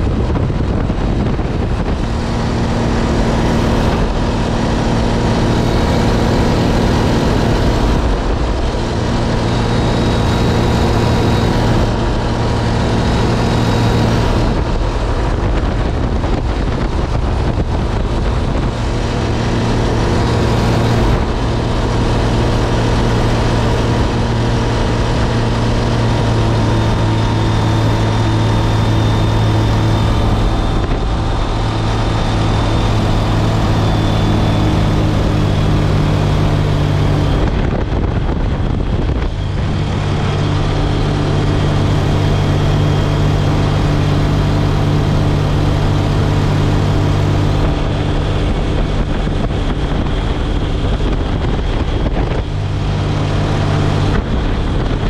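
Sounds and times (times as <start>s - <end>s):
aircraft engine and propeller droning: 0.0s - 55.0s
wind rushing: 0.0s - 55.0s.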